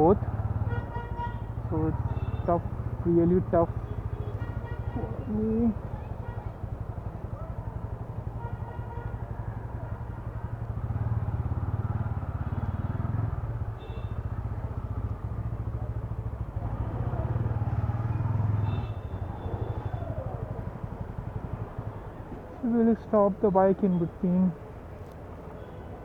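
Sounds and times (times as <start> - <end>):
motorcycle engine running: 0.0 - 23.4.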